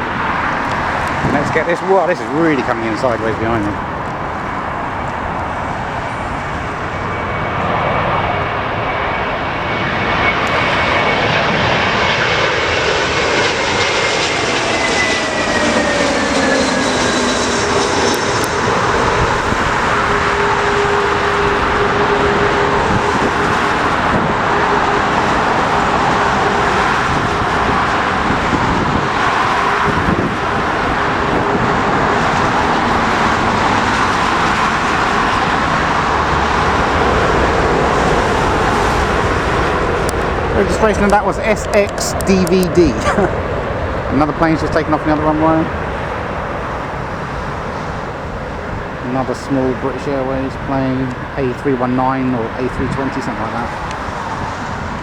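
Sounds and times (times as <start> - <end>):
jet airliner engine whine: 0.0 - 55.0.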